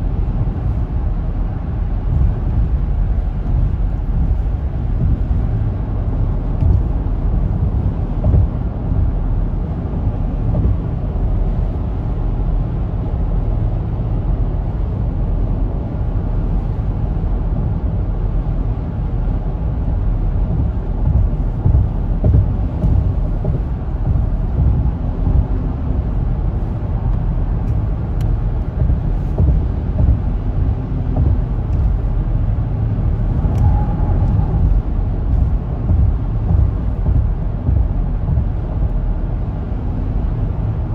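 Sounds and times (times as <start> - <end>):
road and tyre noise in car: 0.0 - 40.9.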